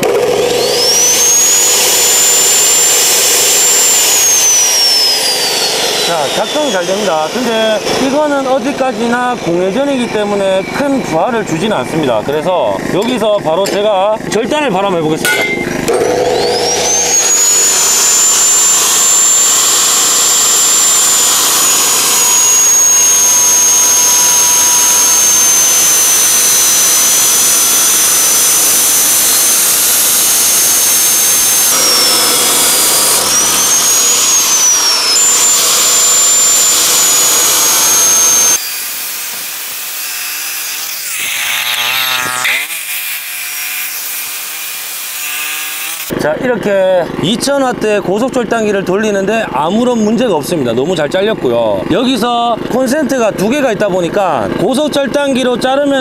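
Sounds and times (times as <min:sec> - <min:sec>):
cut-off saw grinding through steel: 0:00.0 - 0:47.4.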